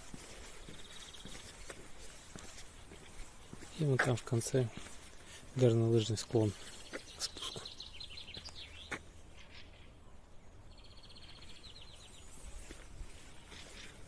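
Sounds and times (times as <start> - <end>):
faint outdoor background: 0.0 - 14.0
songbird chirping and trilling: 0.0 - 14.0.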